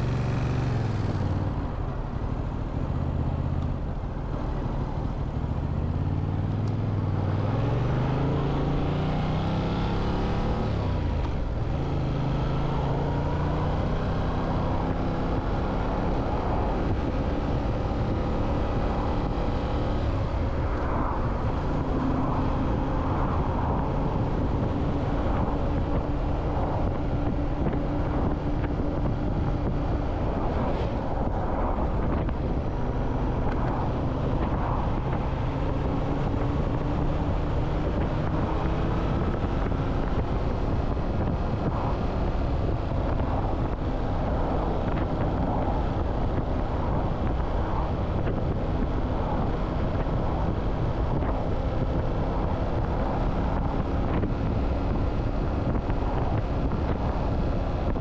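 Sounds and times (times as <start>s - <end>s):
motorcycle engine at speed: 0.0s - 58.0s
wind rushing over microphone: 0.0s - 58.0s.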